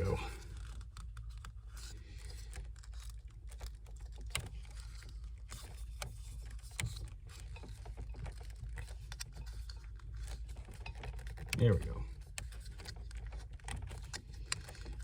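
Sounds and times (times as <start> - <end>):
electrical wires clicking and rustling: 0.0 - 15.0.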